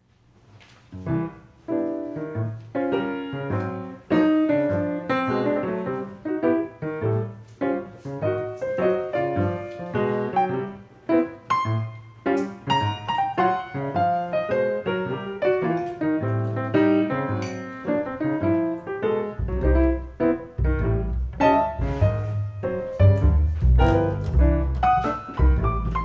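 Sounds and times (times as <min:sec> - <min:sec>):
slow jazz piano chords: 0:00.0 - 0:26.0.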